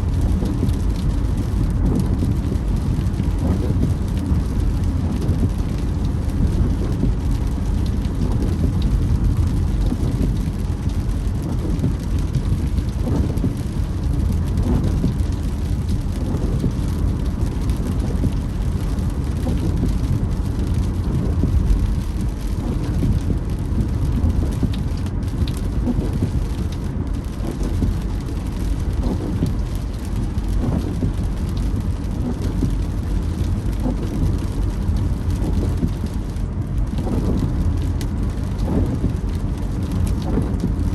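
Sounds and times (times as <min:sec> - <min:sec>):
rain on a car: 0:00.0 - 0:40.9
tyre and road noise: 0:00.0 - 0:40.9
windscreen wipers creaking: 0:00.0 - 0:40.9.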